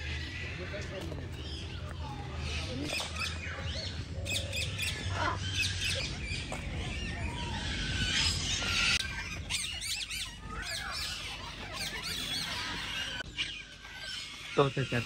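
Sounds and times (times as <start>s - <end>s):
parrots calling: 0.0s - 15.0s.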